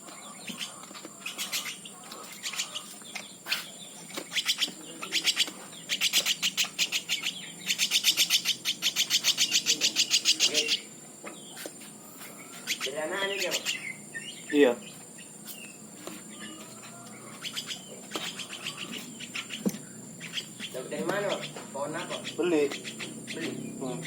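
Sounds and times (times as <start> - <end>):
woodpecker nestling begging calls: 0.0 - 24.0.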